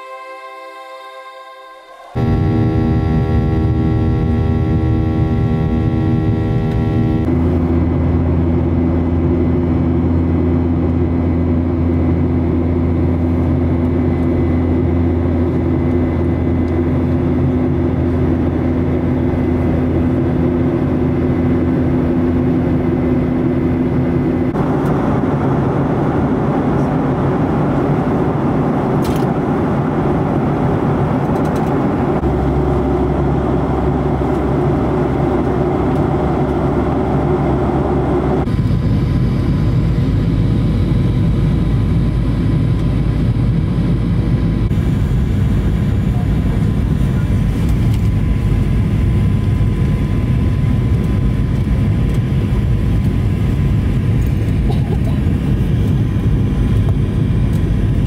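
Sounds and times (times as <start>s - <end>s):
low cabin hum: 0.0s - 58.0s
jet engine and airflow rush: 2.0s - 58.0s.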